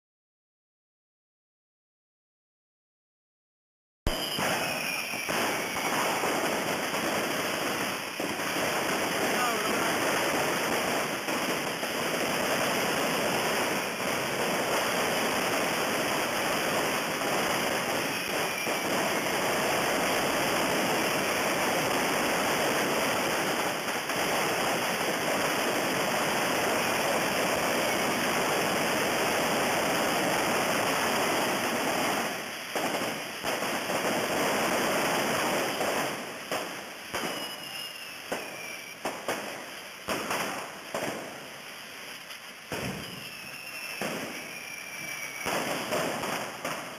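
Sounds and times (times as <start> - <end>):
firework pops: 4.1 - 41.5, 42.2 - 46.9
falling firework whistles: 4.1 - 46.9
fireworks rockets hissing: 4.1 - 46.9.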